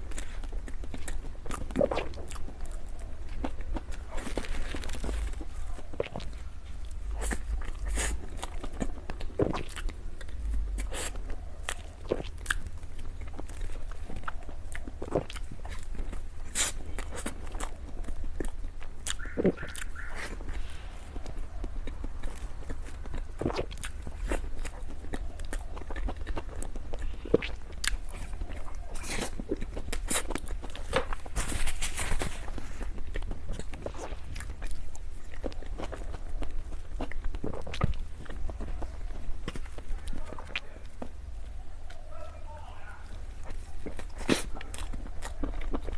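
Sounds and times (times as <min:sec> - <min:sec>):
crunchy crackles: 0:00.0 - 0:45.9
low steady hum: 0:00.0 - 0:45.9
person chewing close up: 0:00.0 - 0:45.9.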